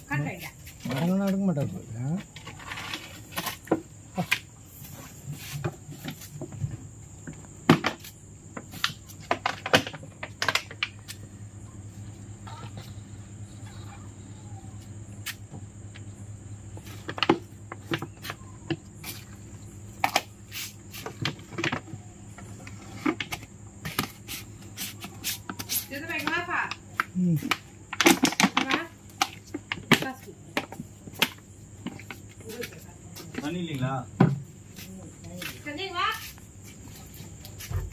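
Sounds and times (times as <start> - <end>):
cricket chirring: 0.0 - 37.9.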